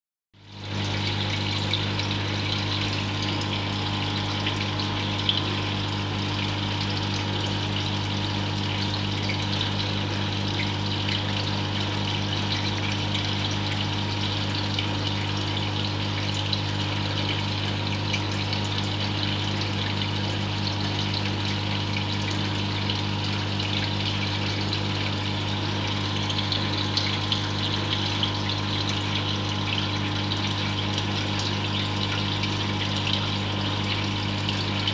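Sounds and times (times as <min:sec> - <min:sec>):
electric pump hum: 0:00.4 - 0:34.9
water trickling and fizzing: 0:00.4 - 0:34.9.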